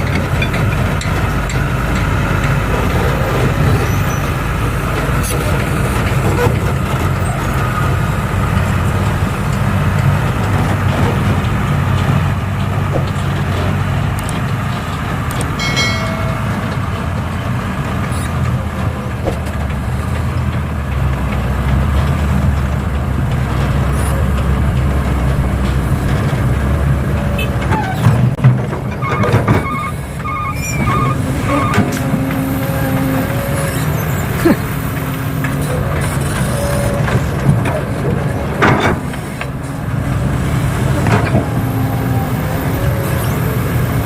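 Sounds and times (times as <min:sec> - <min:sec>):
heavy machinery engine running: 0:00.0 - 0:44.0.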